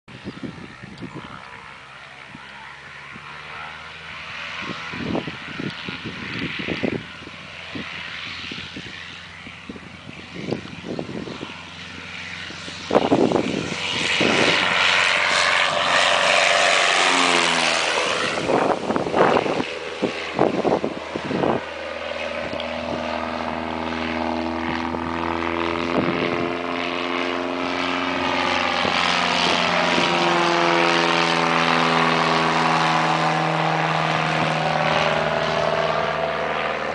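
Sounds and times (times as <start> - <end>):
propeller airplane engine: 0.1 - 36.9.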